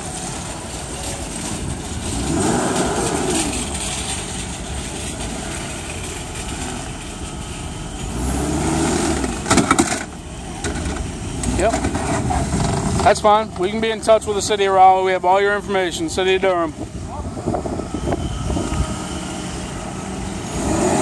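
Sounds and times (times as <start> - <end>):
vehicle engine and traffic: 0.0 - 21.0.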